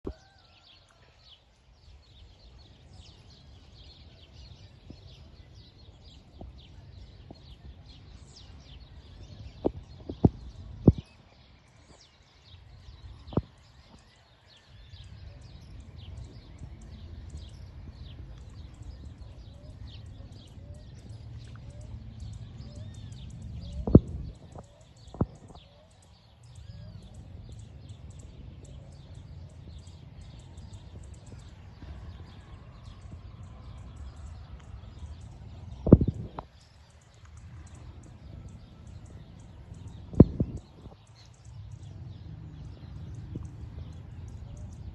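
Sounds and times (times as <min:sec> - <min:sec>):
small birds chirping: 0:00.0 - 0:44.9
wind buffeting microphone: 0:01.7 - 0:44.9.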